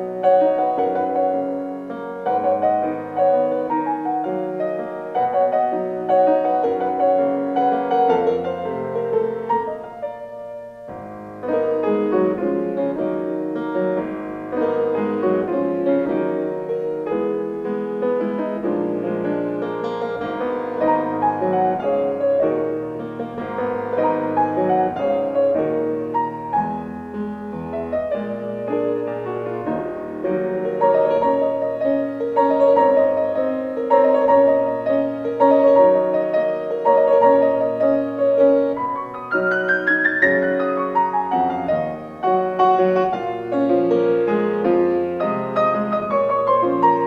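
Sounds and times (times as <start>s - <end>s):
solo piano music: 0.0s - 47.0s.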